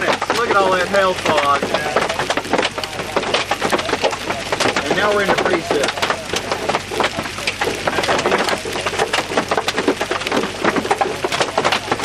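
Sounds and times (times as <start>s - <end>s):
hail clattering: 0.0s - 12.0s
rain rushing: 0.0s - 12.0s.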